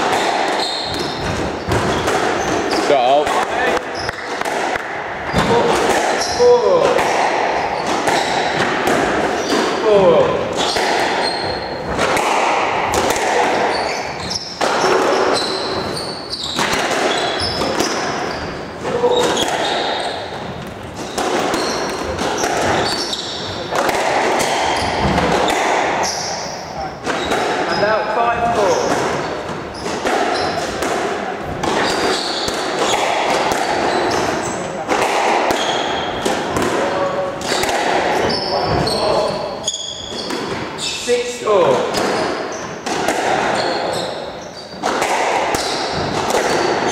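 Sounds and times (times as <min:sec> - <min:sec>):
shoes squeaking on wooden floor: 0:00.0 - 0:04.4, 0:05.2 - 0:12.0, 0:13.4 - 0:23.8, 0:24.4 - 0:30.8, 0:31.4 - 0:34.8, 0:35.5 - 0:42.8, 0:43.5 - 0:46.9
squash ball cracking off rackets: 0:00.0 - 0:26.2, 0:28.6 - 0:39.5, 0:41.7 - 0:43.9, 0:44.6 - 0:46.9.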